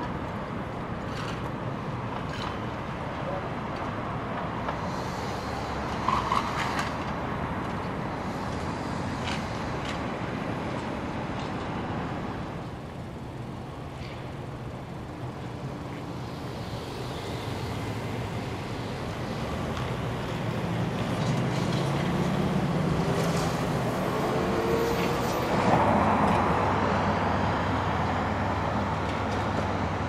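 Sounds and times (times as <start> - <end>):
buses driving past: 0.0 - 30.0
city street traffic: 0.0 - 30.0
trolley bus humming: 4.2 - 30.0.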